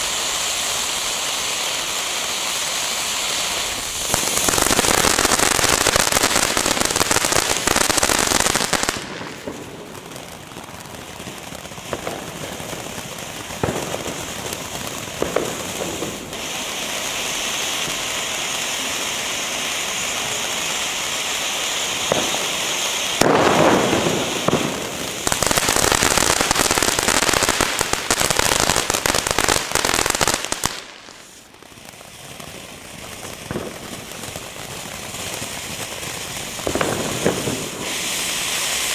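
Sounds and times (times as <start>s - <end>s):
firework fountain hissing and crackling: 0.0s - 38.9s.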